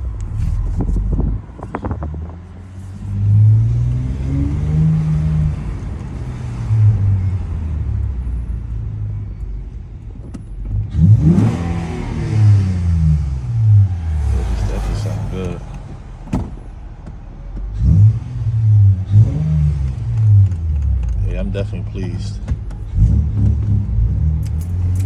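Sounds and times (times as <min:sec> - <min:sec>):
car exhaust while driving: 0:00.0 - 0:25.0.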